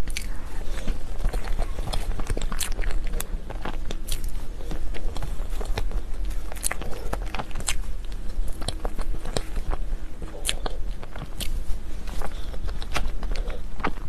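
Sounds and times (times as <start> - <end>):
chewing and biting cake: 0.0 - 14.0
small crunches: 0.0 - 14.0
steady low hum: 0.0 - 14.0.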